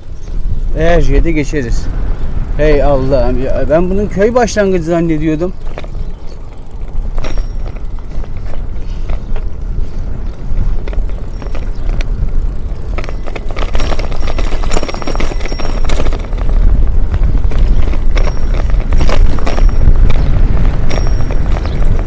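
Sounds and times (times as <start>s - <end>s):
bicycle clicks: 0.0s - 22.0s
wind buffeting microphone: 0.0s - 22.0s
rattles: 2.6s - 22.0s.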